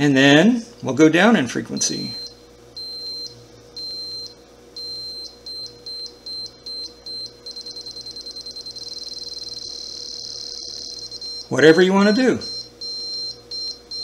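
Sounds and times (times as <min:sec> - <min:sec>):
faint electrical hum: 0:00.0 - 0:14.0
high-pitched electronic beeps: 0:01.8 - 0:14.0.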